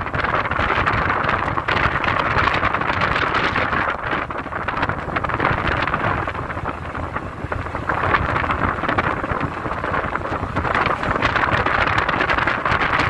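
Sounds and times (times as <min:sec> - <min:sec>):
car tyre and road noise: 0:00.0 - 0:13.0
wind noise: 0:00.0 - 0:13.0.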